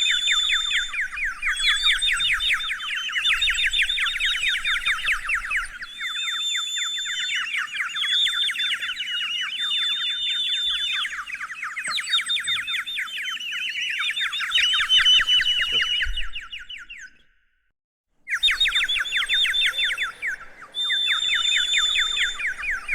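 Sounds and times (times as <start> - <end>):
small birds chirping: 0.0 - 17.4, 18.3 - 22.9
whistled bird notes: 0.0 - 22.9.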